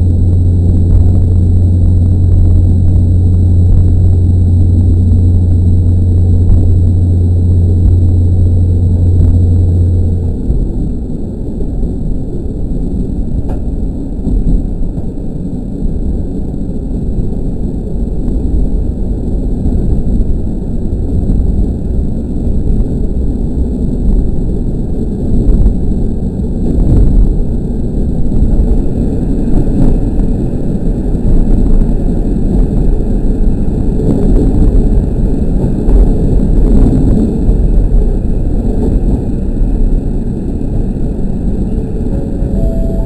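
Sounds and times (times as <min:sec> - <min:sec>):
railcar engine and wheels rumbling: 0:00.0 - 0:43.0.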